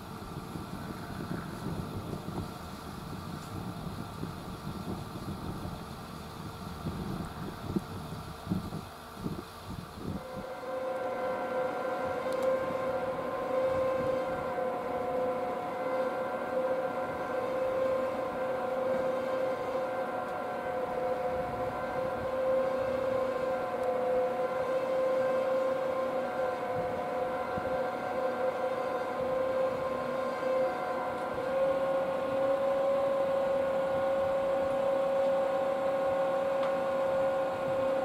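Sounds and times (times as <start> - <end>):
machine humming whine: 0.0 - 38.0.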